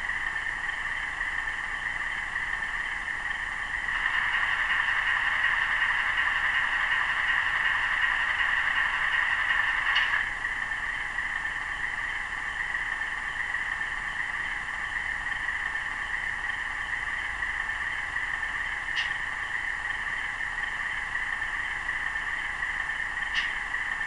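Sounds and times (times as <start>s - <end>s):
model locomotive diesel idling: 0.0s - 24.0s.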